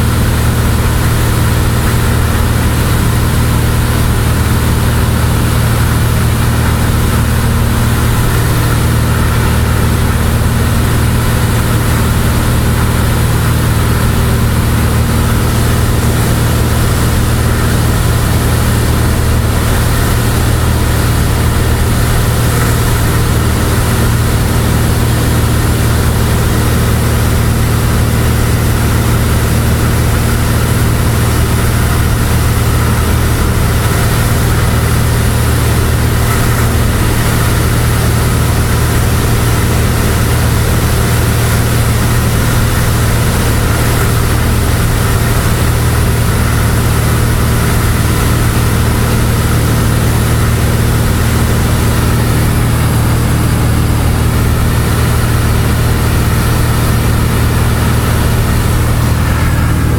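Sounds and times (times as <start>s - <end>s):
propeller plane engine drone in cabin: 0.0s - 59.9s.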